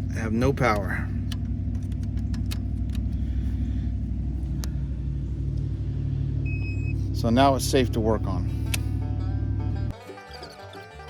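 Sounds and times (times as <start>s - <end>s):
low motor rumble: 0.0s - 11.0s.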